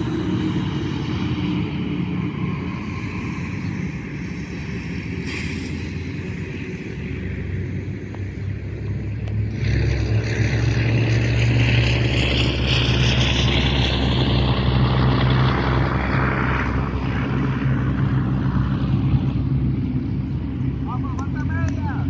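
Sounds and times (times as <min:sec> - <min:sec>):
aircraft passing overhead: 0:00.0 - 0:22.0.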